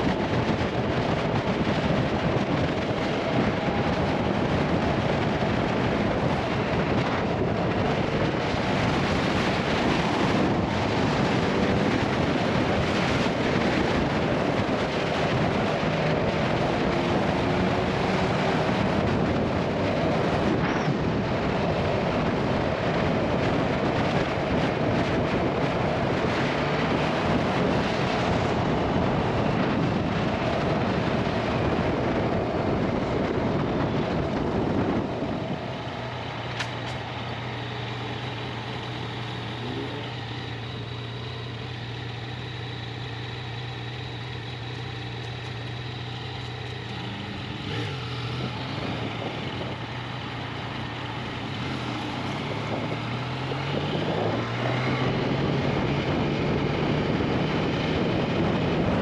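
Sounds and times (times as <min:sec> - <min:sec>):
heavy wind noise: 0:00.0 - 0:59.0
motorcycle engine running: 0:00.0 - 0:59.0.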